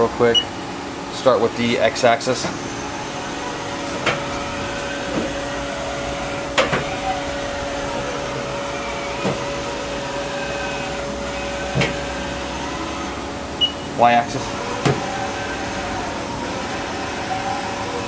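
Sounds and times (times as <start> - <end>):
axis drive whine: 0.0 - 18.0
machine hum: 0.0 - 18.0.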